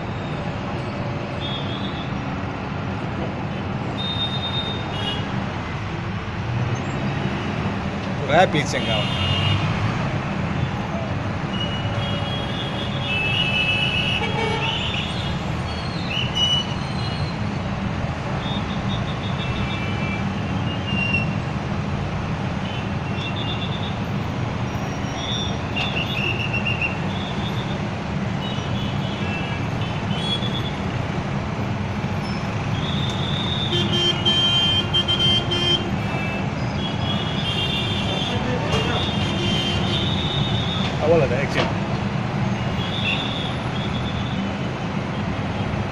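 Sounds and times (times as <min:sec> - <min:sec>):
truck engines running: 0:02.2 - 0:12.0, 0:15.1 - 0:45.9.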